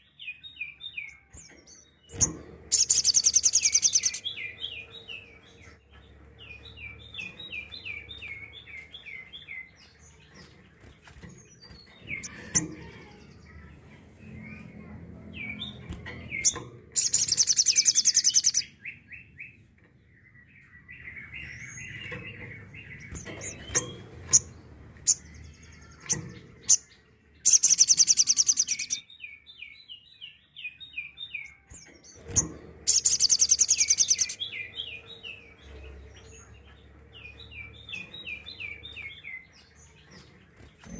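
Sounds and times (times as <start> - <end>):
bird chirping: 0.0 - 40.9
high-pitched rattling bird trills: 1.1 - 18.8, 21.3 - 29.1, 31.4 - 40.9.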